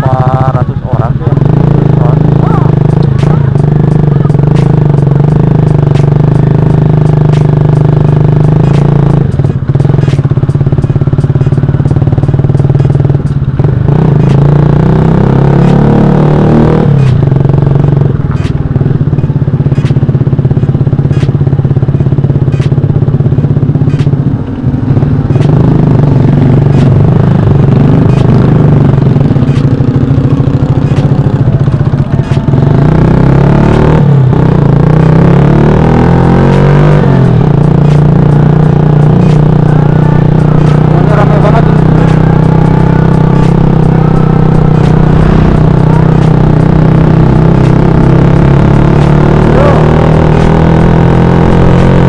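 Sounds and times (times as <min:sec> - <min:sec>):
loud motorcycle exhaust: 0:00.0 - 0:52.0.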